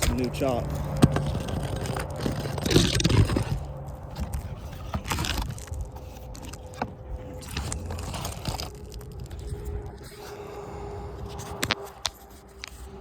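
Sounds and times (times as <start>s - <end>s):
scraping and rustling: 0.0s - 13.0s.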